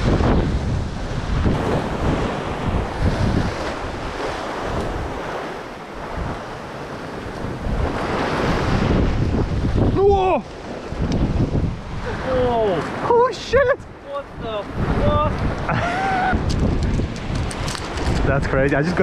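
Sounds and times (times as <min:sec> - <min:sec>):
ocean swell washing against rock: 0:00.0 - 0:19.0
wind buffeting the microphone: 0:00.0 - 0:19.0.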